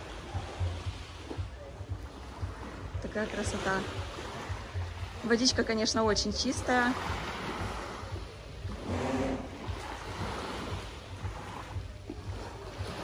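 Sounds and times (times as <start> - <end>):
wind rumbling on microphone: 0.0 - 13.0
waves washing on pebble shore: 2.1 - 13.0.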